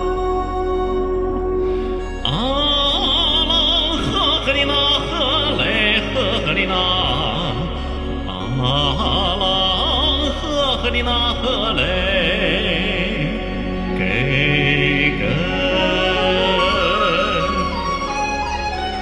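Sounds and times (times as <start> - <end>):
instrumental backing track: 0.0 - 19.0
man singing folk song: 2.2 - 18.2.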